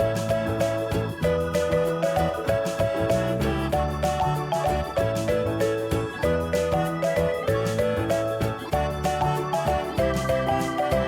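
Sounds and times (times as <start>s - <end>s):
upbeat plucked music over a beat: 0.0s - 11.0s.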